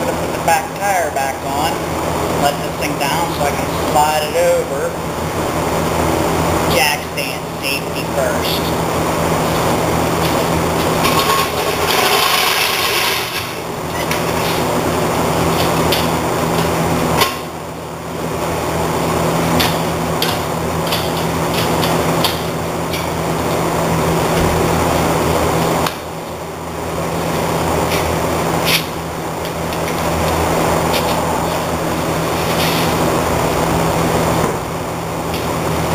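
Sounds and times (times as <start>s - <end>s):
steady shop hum: 0.0s - 35.9s.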